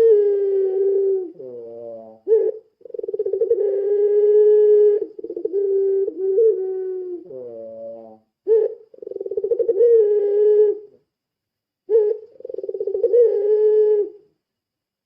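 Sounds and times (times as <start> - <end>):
turtle dove cooing: 0.0 - 11.0, 11.9 - 14.3.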